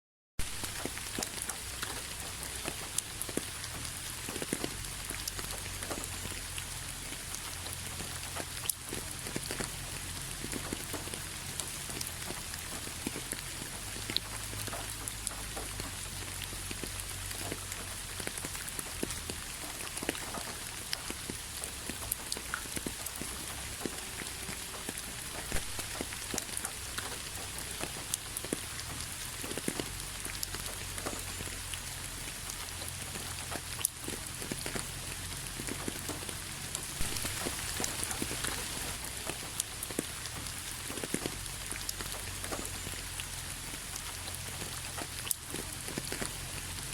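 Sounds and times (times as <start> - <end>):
raindrops pattering: 0.4 - 46.9
steady rain hiss: 0.4 - 46.9.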